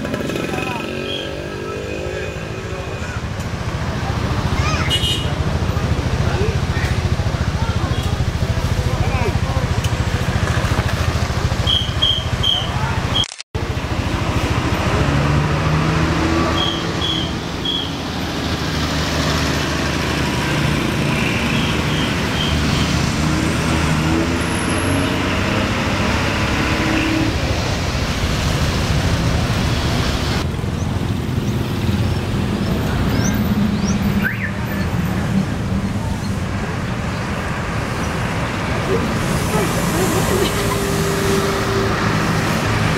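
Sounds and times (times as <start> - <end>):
bus diesel engines: 0.0 - 42.9
street traffic: 0.0 - 42.9.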